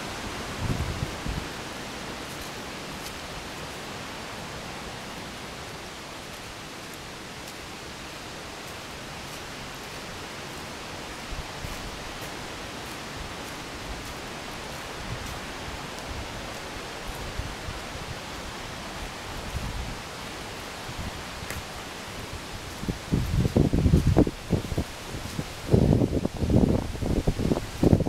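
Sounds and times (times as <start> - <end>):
steady rushing hiss: 0.0 - 28.0
footsteps crunching dry leaves: 0.4 - 3.9, 5.0 - 26.7.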